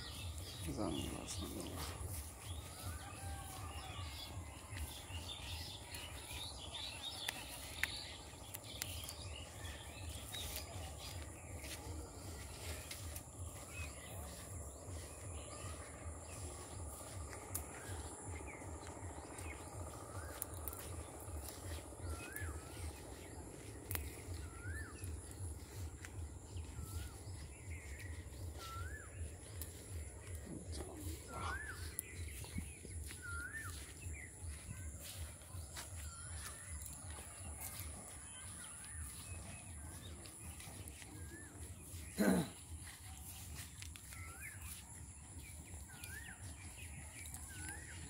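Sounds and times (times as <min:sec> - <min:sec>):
small birds chirping: 0:00.0 - 0:48.0
steady low rumble: 0:00.0 - 0:48.0.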